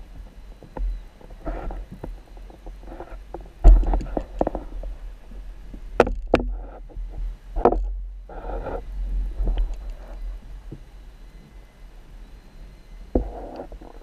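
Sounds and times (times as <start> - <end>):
muffled underwater rumble: 0.0 - 14.0.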